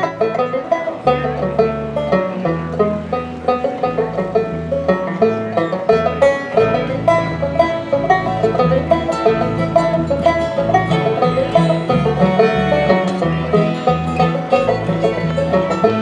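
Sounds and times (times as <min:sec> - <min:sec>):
acoustic guitar: 0:00.0 - 0:16.0
banjo: 0:00.0 - 0:16.0
fiddle: 0:00.0 - 0:16.0
upright bass: 0:00.0 - 0:16.0.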